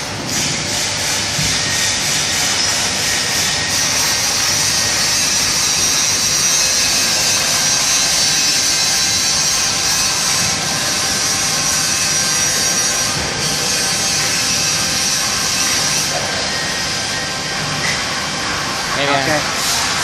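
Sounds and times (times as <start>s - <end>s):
loud machinery with hiss: 0.0s - 20.0s.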